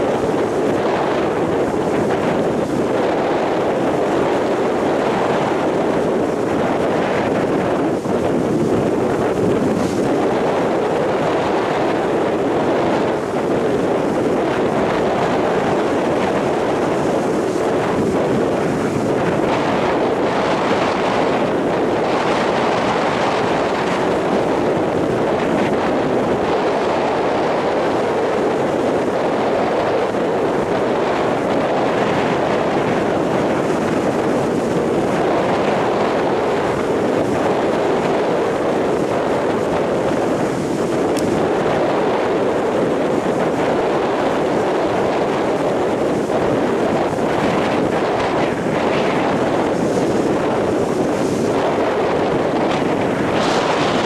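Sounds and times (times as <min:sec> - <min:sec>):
surf breaking on beach: 0:00.0 - 0:54.0
wind on microphone: 0:00.0 - 0:54.0.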